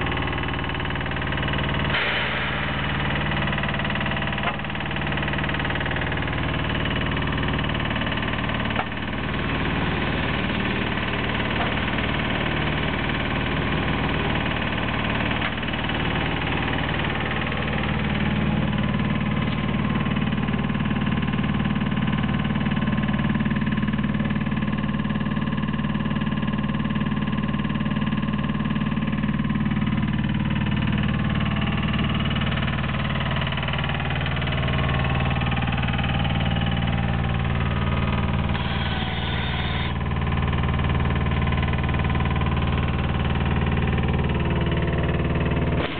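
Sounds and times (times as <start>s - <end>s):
drilling rig engine running: 0.0s - 45.9s.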